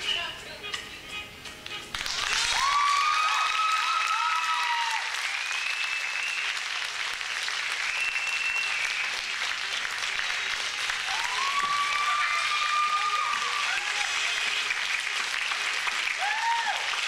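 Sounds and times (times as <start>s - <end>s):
audience applauding: 1.9s - 17.0s.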